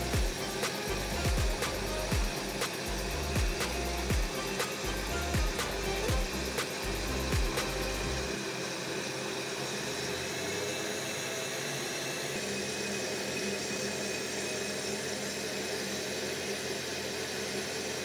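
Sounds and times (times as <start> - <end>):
blender motor running: 0.0 - 18.0.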